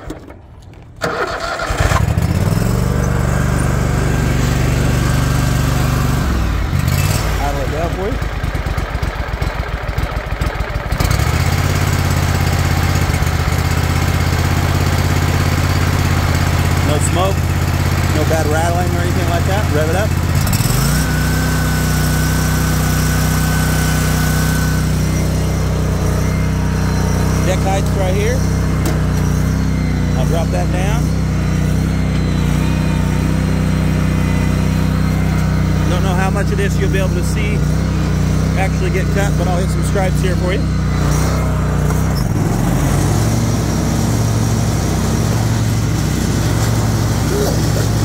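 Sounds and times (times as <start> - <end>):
mower engine running: 0.0 - 48.0.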